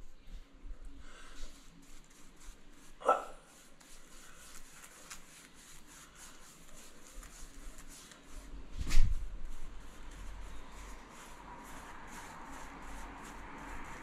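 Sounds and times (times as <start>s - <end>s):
brush scrubbing wood: 1.1s - 14.0s.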